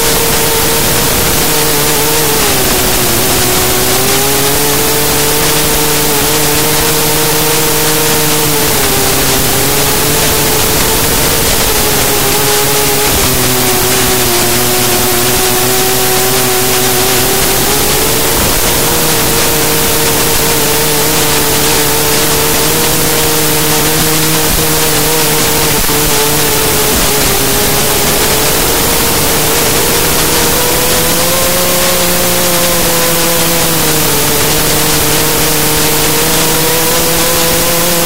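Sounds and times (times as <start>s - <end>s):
loud rushing hiss: 0.0s - 37.7s
drone motors whining: 0.0s - 38.0s.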